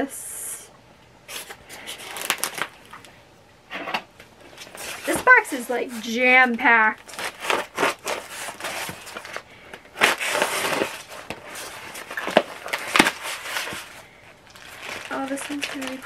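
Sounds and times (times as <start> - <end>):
paper rustling and crinkling: 1.3 - 3.1, 4.4 - 16.0.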